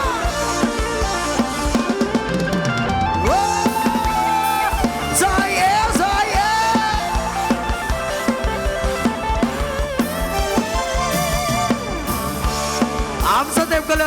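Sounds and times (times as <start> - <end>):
drum kit steady beat: 0.0 - 14.0
sliding lead melody: 0.0 - 14.0.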